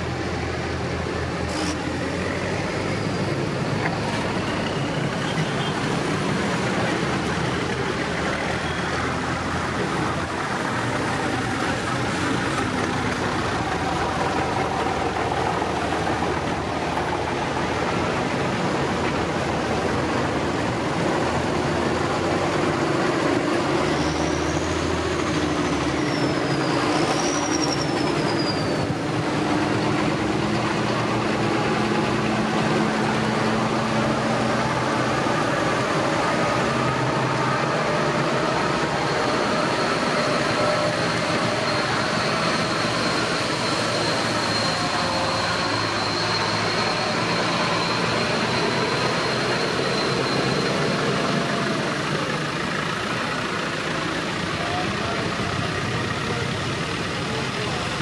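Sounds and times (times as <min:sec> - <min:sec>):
tractor diesel engines running: 0:00.0 - 0:58.0.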